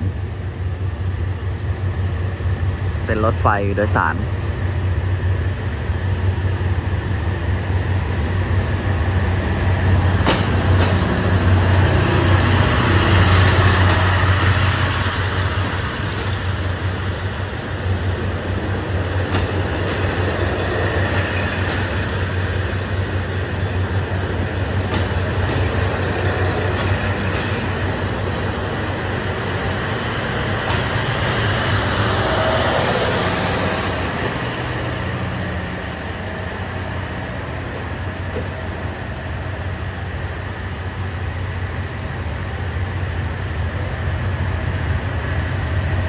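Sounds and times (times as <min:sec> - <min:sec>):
wheel and rail rumble: 0:00.0 - 0:46.0.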